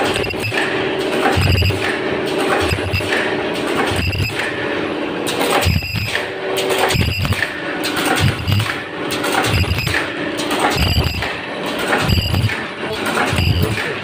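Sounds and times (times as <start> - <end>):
high-pitched machine squeals: 0.0 - 1.9, 2.5 - 4.6, 5.5 - 7.5, 8.2 - 11.4, 12.0 - 14.0
machine motor hum: 0.0 - 14.0
mechanical clacks: 0.0 - 14.0.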